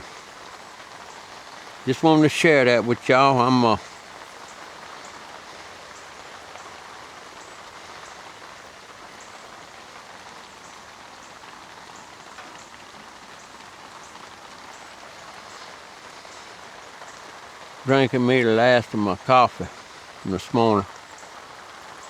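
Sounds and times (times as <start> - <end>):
light rain falling: 0.0 - 22.0
single raindrops ticking: 0.0 - 22.0.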